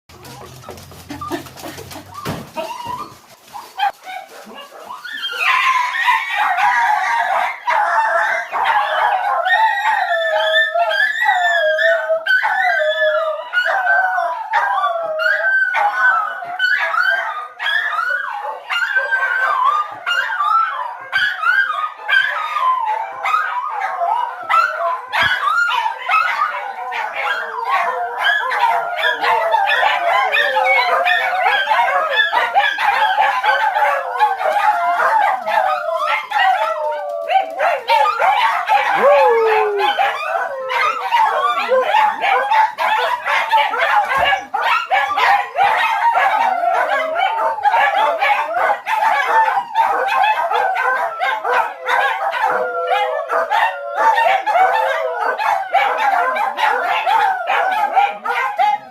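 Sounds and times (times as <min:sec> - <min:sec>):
dogs howling and yipping: 0:00.1 - 0:58.9.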